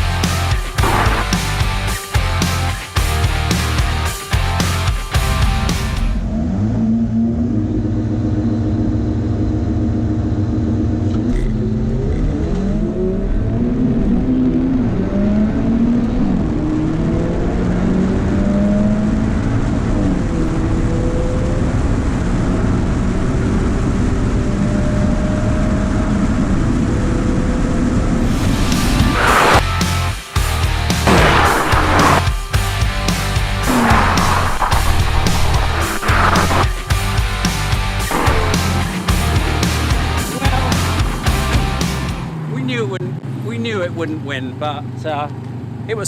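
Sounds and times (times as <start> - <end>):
car engine accelerating hard: 0.0 - 30.1, 30.8 - 45.9.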